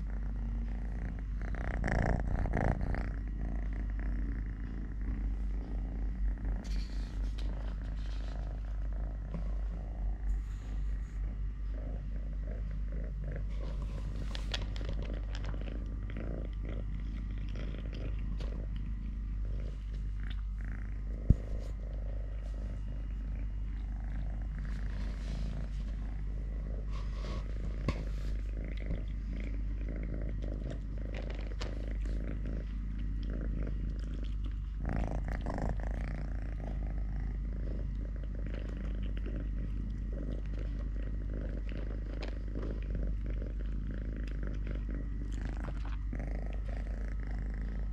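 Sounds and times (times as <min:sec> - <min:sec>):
kitten purring: 0:00.0 - 0:47.9.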